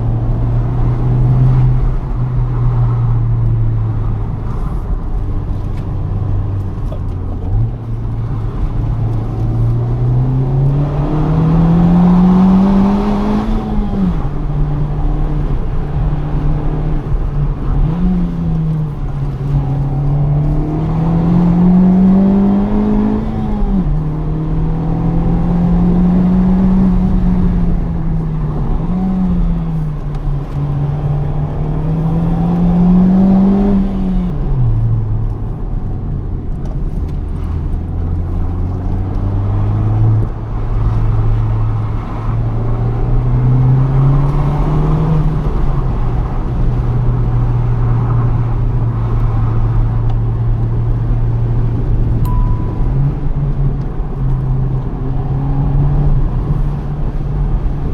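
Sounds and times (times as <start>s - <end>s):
car engine revving through gears: 0.0s - 57.9s.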